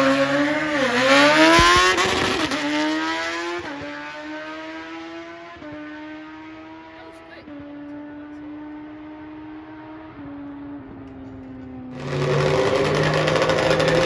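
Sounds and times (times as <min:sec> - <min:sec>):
motorcycle accelerating at full throttle: 0:00.0 - 0:14.0.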